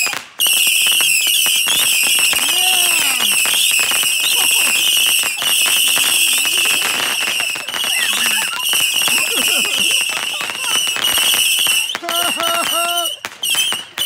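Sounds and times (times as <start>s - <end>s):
firework shrill whistle: 0.0s - 14.0s.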